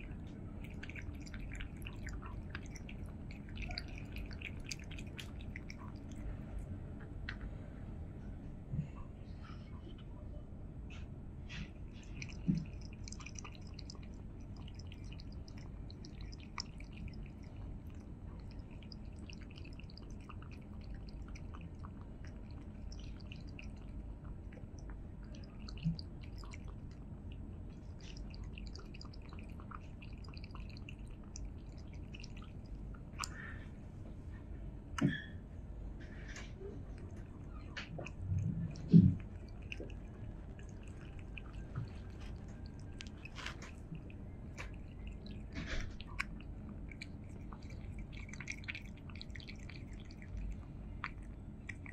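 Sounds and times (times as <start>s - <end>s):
cat lapping water: 0.0s - 7.2s, 11.4s - 34.3s, 35.8s - 51.9s.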